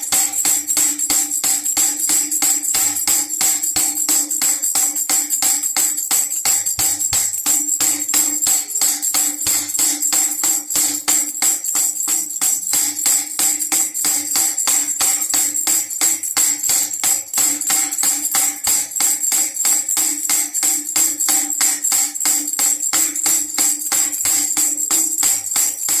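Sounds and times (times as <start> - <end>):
baby rattle jingle bells shaken: 0.0 - 26.0.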